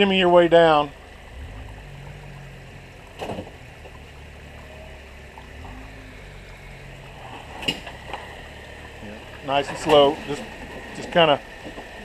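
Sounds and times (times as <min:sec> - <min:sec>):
car engine running low: 0:00.0 - 0:12.0.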